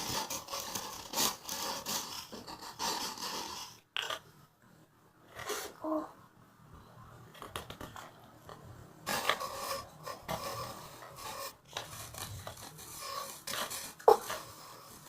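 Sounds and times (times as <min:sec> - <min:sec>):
rubbing and scraping handling noises: 0:00.0 - 0:06.0, 0:07.1 - 0:15.0.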